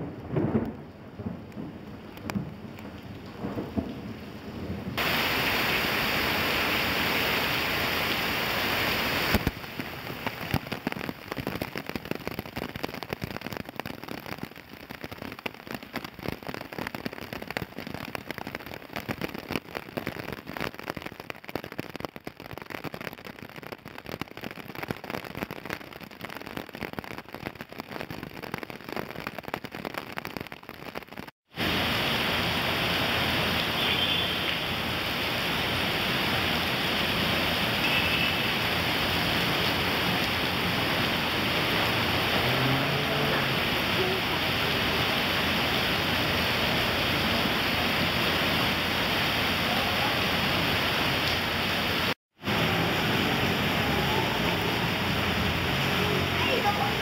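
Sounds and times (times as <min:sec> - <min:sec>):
heavy rain: 0:00.0 - 0:57.0
raindrops hitting tiled deck: 0:00.0 - 0:57.0.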